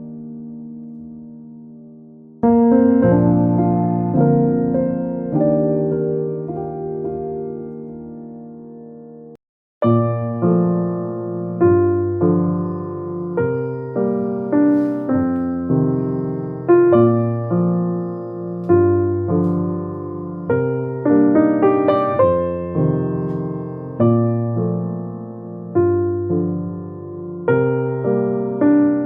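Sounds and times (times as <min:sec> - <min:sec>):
slow solo piano music: 0:00.0 - 0:29.0.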